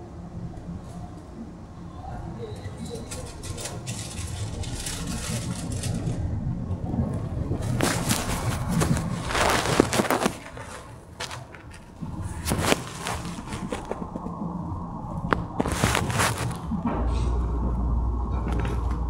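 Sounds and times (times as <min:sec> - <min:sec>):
train wheels rumbling on rail: 0:02.2 - 0:19.0.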